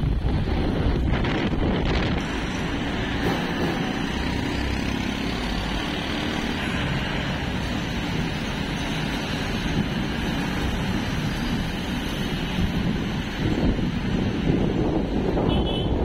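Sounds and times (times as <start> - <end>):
bus engine and road rumble: 0.0 - 16.0
surrounding traffic: 0.0 - 16.0.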